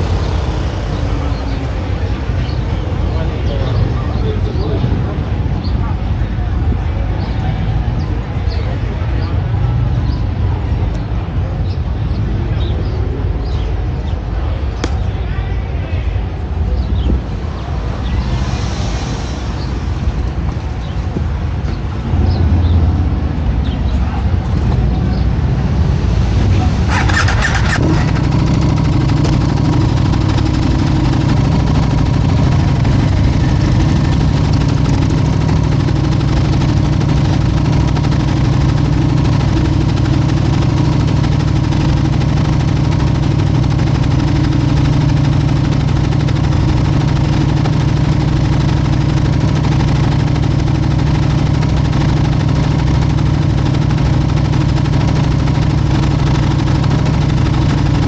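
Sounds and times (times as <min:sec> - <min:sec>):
motorcycle engine idling: 0:00.0 - 0:18.5, 0:19.6 - 0:58.0.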